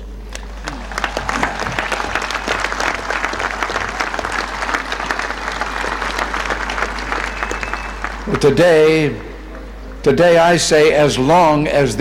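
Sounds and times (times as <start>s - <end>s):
crowd applauding: 0.3s - 10.2s.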